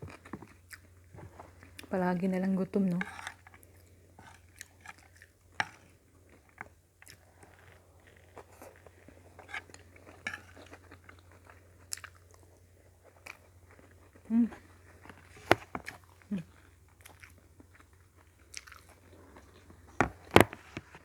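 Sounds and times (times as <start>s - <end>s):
chewing with soft crunches: 0.0s - 2.0s, 3.0s - 21.0s.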